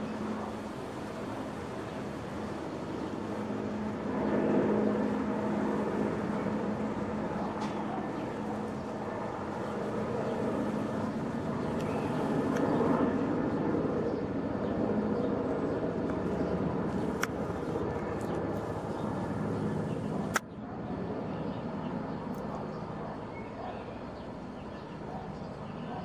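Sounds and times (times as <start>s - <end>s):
helicopter flying overhead: 0.0s - 26.0s.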